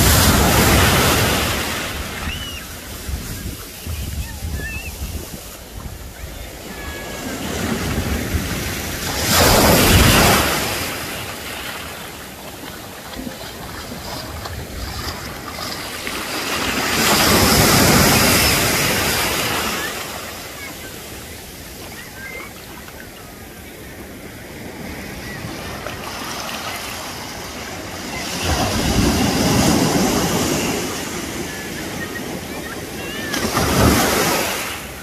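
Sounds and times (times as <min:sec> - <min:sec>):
surf washing up beach: 0:00.0 - 0:35.0.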